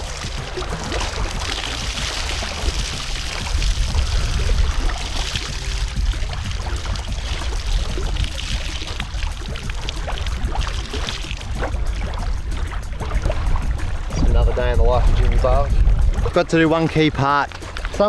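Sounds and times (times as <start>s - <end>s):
water pouring and splashing: 0.0s - 18.0s.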